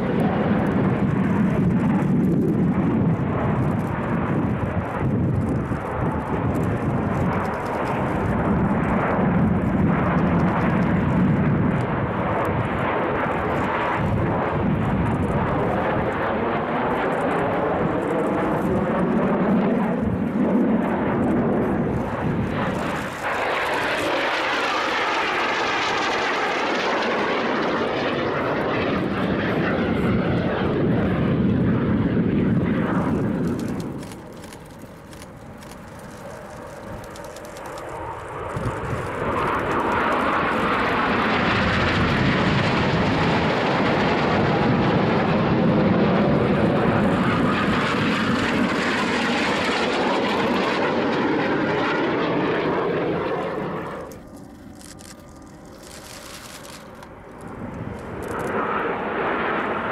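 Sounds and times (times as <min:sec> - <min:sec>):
jet aircraft passing: 0:00.0 - 0:59.9.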